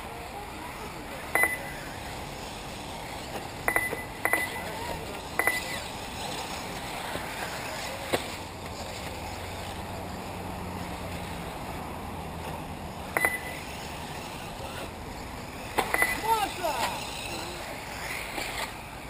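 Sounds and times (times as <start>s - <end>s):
rc cars noisy haze: 0.0s - 19.0s.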